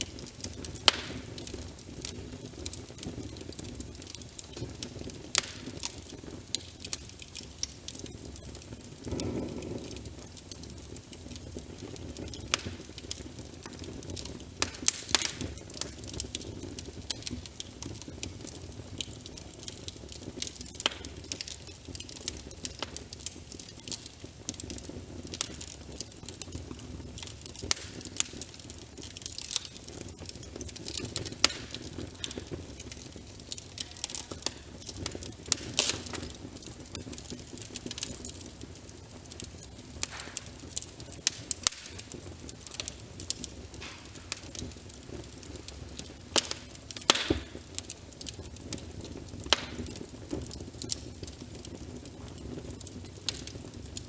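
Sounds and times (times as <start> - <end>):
rain pattering: 0.0 - 54.0
wood fire crackling and popping: 0.0 - 54.0.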